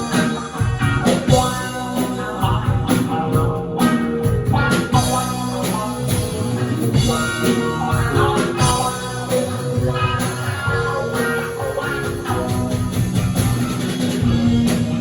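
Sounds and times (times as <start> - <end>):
drum kit: 0.0 - 15.0
guitar: 0.0 - 15.0
live rock band: 0.0 - 15.0.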